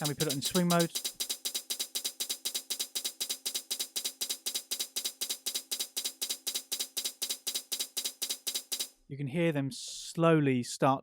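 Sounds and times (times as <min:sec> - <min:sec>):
drum machine hits: 0:00.0 - 0:09.0.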